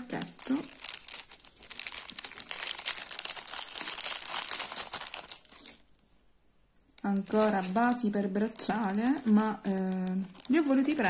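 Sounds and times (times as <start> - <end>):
plastic bags crinkling: 0.0 - 6.0, 7.0 - 11.0.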